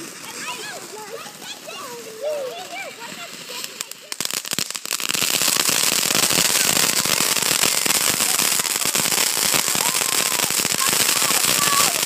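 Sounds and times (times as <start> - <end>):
firecrackers crackling: 0.0 - 12.0.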